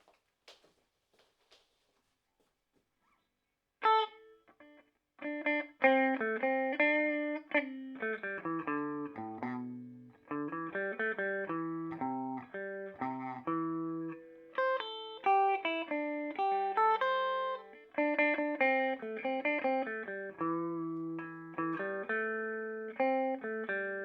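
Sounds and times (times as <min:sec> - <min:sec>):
clean electric guitar: 0:03.8 - 0:24.0.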